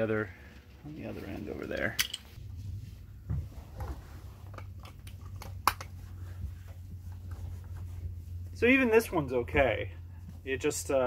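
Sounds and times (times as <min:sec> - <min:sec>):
person sitting on cushioned bench: 0:00.0 - 0:11.0
steady low hum: 0:00.0 - 0:11.0.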